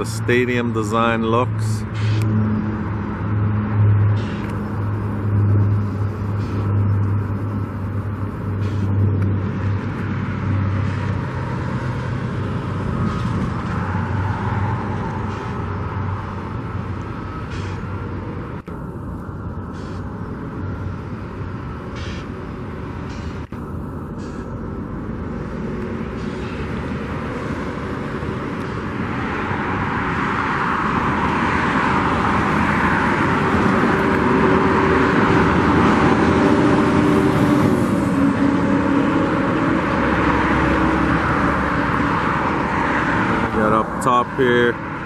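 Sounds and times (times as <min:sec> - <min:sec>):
vehicle passing by: 0:00.0 - 0:18.6, 0:19.2 - 0:45.0.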